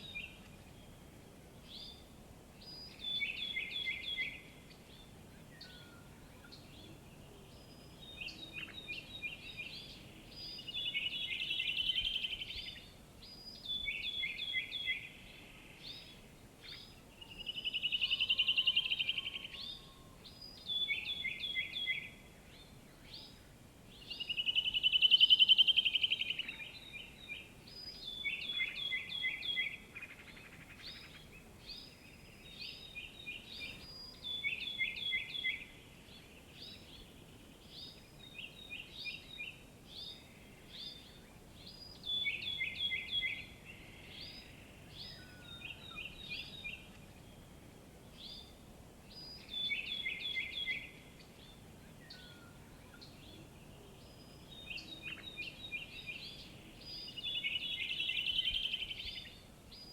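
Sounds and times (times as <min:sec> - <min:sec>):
faint background noise: 0:00.0 - 0:59.9
songbird chirping: 0:00.0 - 0:59.9.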